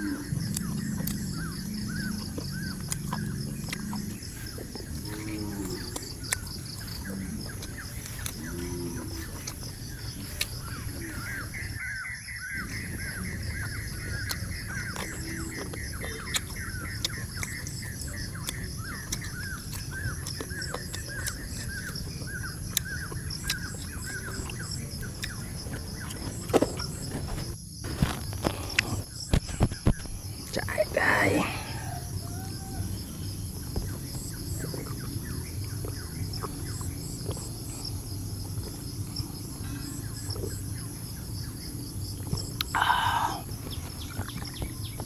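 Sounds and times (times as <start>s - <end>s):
low calls: 0.0s - 27.3s, 28.5s - 45.0s
pulsing high insect drone: 0.0s - 45.0s.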